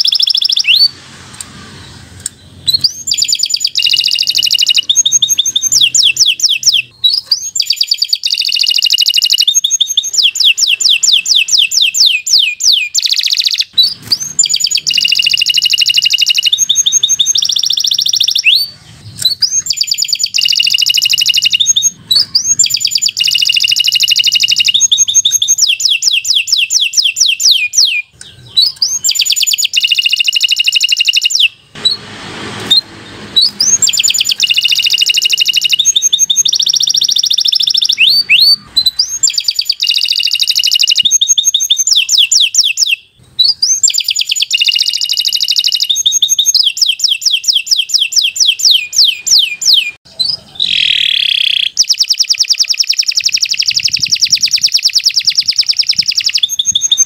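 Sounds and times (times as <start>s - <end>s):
canary singing trills: 0.0s - 1.0s, 1.6s - 32.0s, 32.6s - 57.0s.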